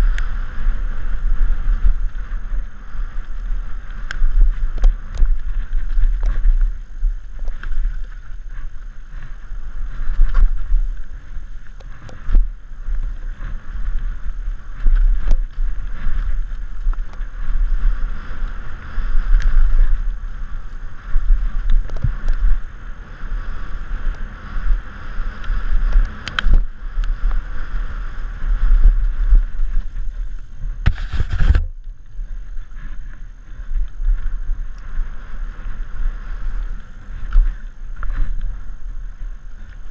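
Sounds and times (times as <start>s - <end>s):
rush of bike tyres on dirt: 0.0s - 39.9s
wind buffeting microphone: 0.0s - 39.9s.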